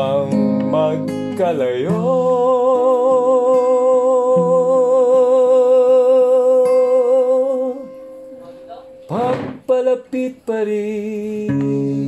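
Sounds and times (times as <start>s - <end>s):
acoustic guitar notes: 0.0s - 12.0s.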